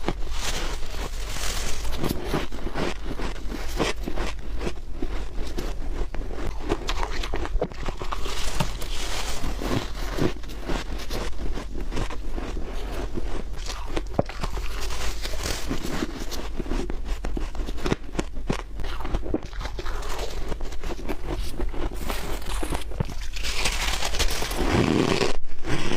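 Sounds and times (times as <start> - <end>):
chewing crunchy frost: 0.0 - 25.9.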